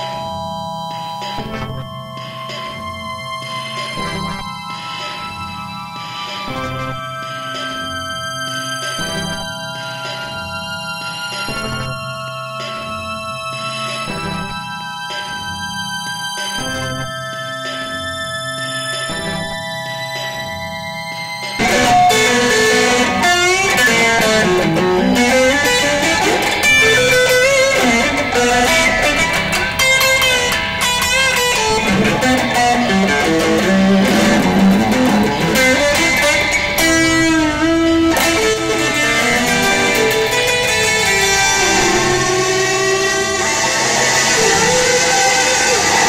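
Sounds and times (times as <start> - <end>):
electric guitar instrumental music: 0.0 - 46.0.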